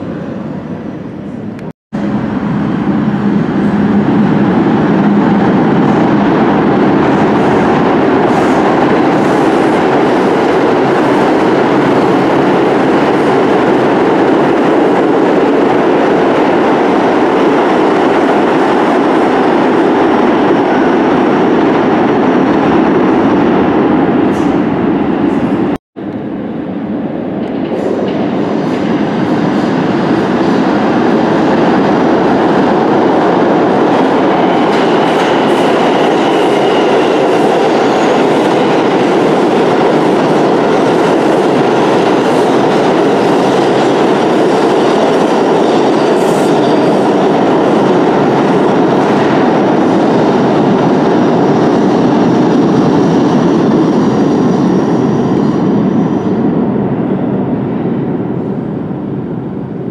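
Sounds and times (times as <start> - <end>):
subway train rumbling on rails: 0.0 - 59.9.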